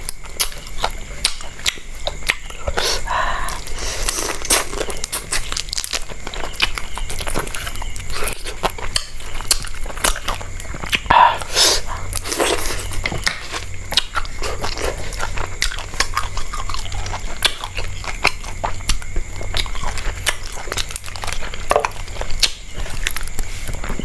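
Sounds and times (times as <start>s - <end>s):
person chewing and crunching: 0.0s - 24.0s.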